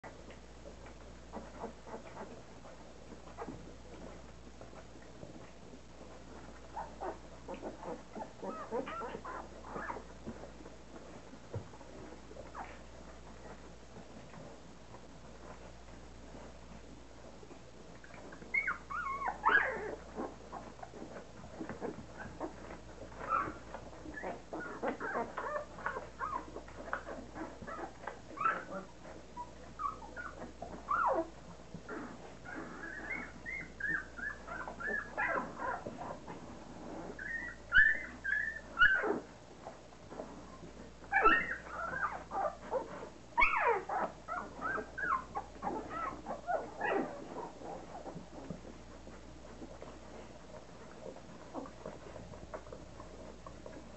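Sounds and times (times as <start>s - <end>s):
puppies whimpering and squeaking: 0.9s - 14.6s, 17.9s - 53.9s.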